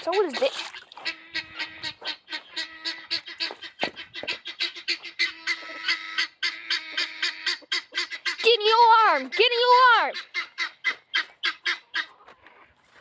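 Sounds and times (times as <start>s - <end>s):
guinea fowl alarm calls: 0.1s - 12.8s.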